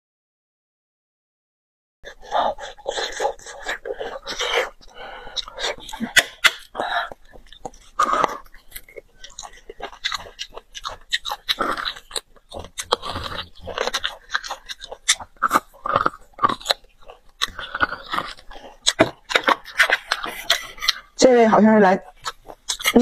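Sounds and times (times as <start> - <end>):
chewing and sucking marrow: 2.0 - 23.0.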